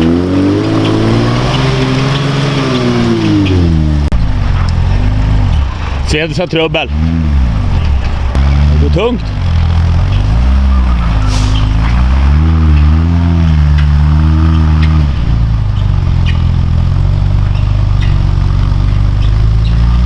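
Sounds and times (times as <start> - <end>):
truck engine labouring: 0.0 - 20.0.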